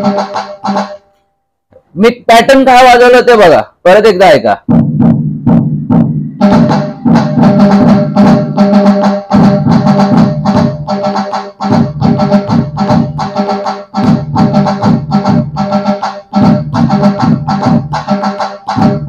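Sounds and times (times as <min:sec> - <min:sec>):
deep drum beats: 0:00.0 - 0:01.0, 0:04.6 - 0:19.0
fast crisp drum strokes: 0:00.0 - 0:01.0, 0:04.6 - 0:19.0.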